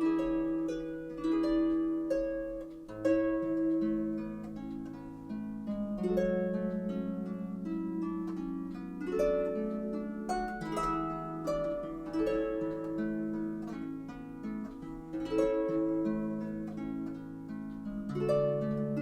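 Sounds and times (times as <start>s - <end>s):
solo harp music: 0.0s - 19.0s.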